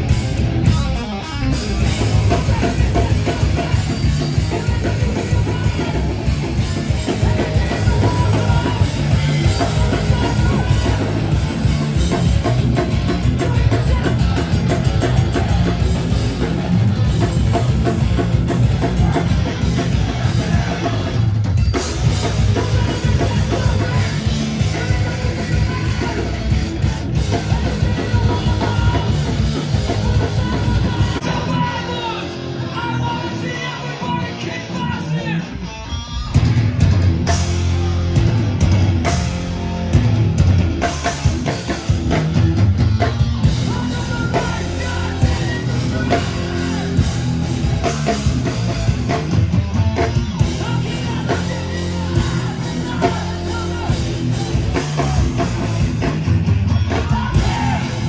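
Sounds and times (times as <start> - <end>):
pounding drum kit: 0.0 - 35.6, 36.2 - 58.0
punk band playing live: 0.0 - 58.0.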